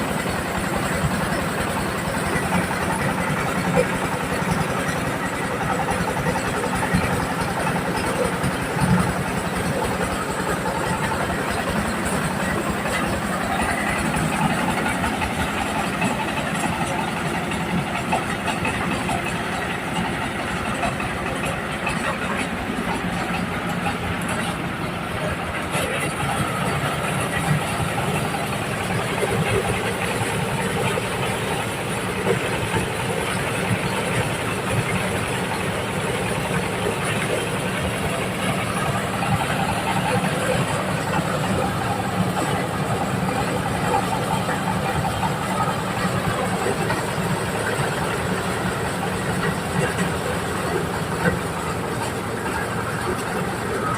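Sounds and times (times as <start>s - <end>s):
continuous mechanical rattling: 0.0s - 53.9s
diesel engine chugging: 0.0s - 53.9s.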